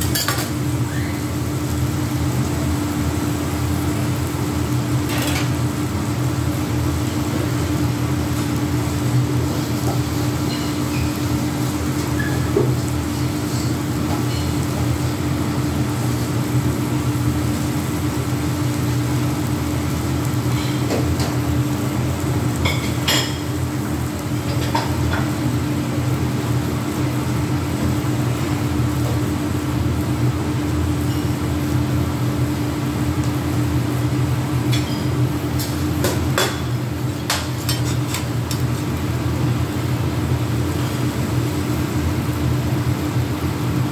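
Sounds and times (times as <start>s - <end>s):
food sizzling on griddle: 0.0s - 43.9s
low machine hum: 0.0s - 43.9s.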